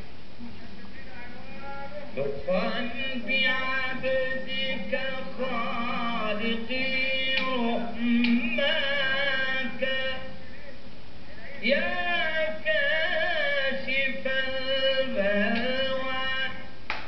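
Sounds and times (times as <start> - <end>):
man chanting devotional song: 0.6 - 16.8.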